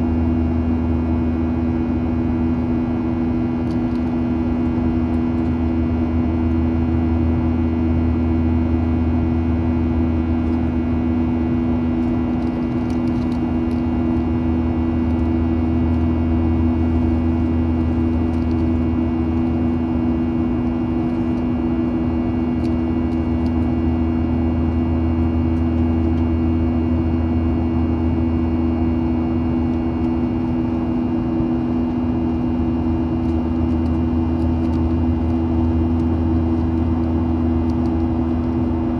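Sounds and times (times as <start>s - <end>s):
airliner engines droning: 0.0s - 38.9s
low cabin hum: 0.0s - 38.9s.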